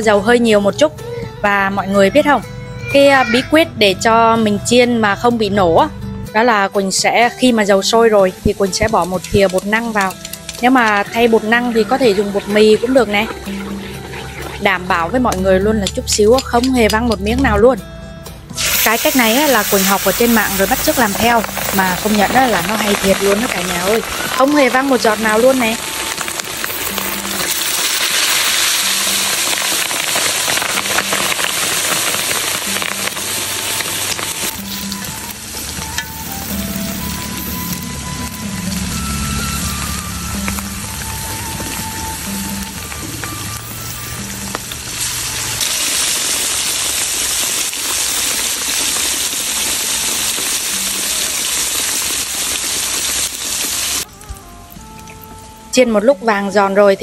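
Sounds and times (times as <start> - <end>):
meat deep-frying in oil: 6.9 - 17.0, 18.6 - 55.2.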